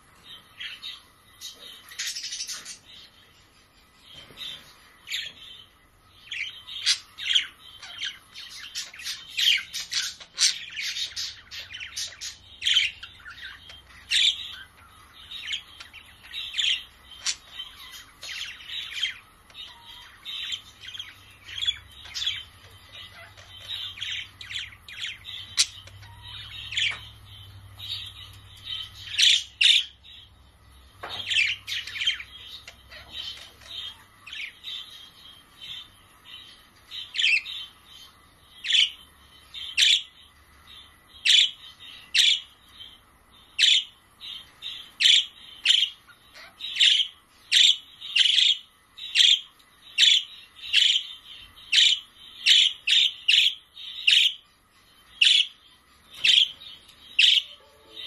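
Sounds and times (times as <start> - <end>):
budgerigars chirping: 0.0 - 3.3, 4.1 - 58.0.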